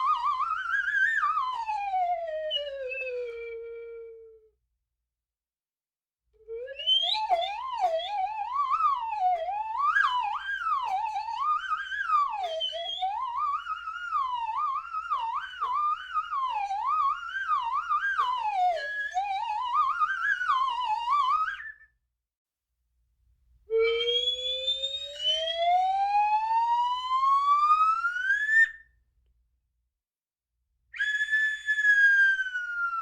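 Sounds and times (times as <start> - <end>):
sliding whistle tone wobbling: 0.0 - 4.4, 6.5 - 22.0, 23.7 - 28.9, 31.0 - 33.0.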